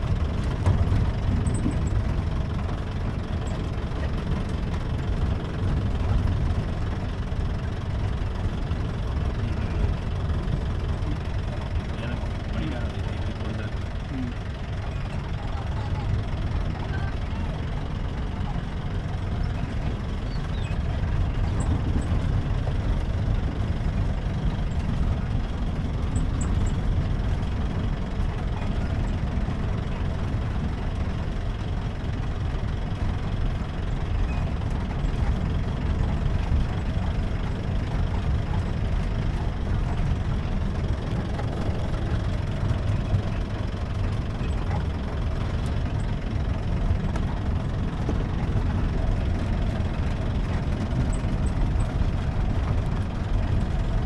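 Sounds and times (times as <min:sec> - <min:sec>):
jeep engine rumbling: 0:00.0 - 0:54.0.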